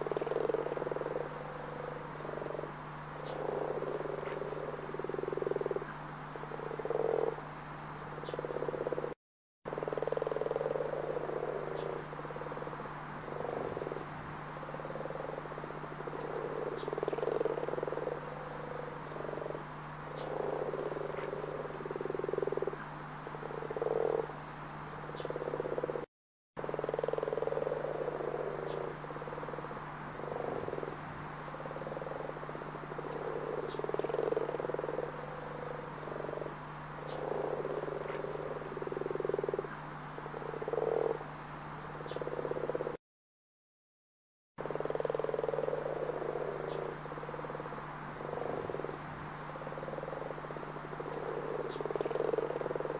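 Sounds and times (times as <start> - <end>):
frogs croaking: 0.0 - 43.0, 44.6 - 52.9
steady low hum: 0.0 - 43.0, 44.6 - 52.9.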